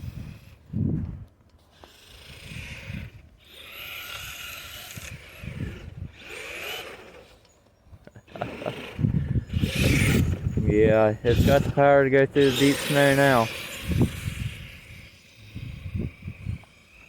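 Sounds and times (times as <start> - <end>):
rc truck motor whining: 0.0 - 7.6, 8.2 - 17.0.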